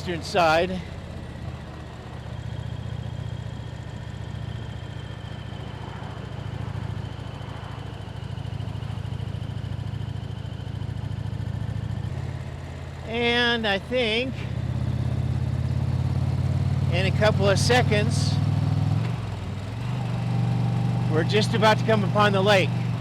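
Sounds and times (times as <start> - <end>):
motorcycle engine cruising: 0.0 - 23.0.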